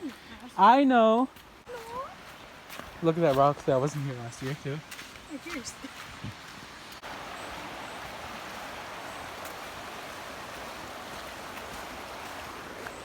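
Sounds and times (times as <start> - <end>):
river water rushing: 1.4 - 13.0.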